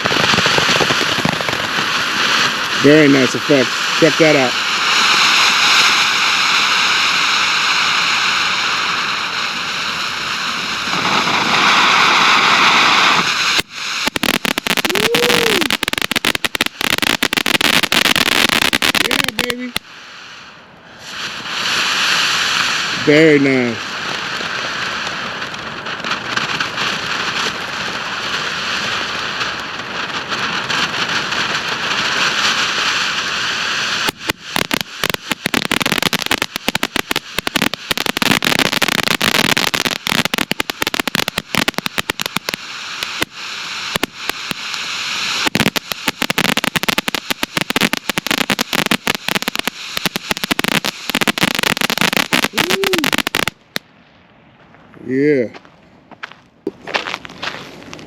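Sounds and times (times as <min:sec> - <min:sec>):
firework fountain hissing: 0:00.0 - 0:54.0
firework crackling: 0:00.0 - 0:58.0.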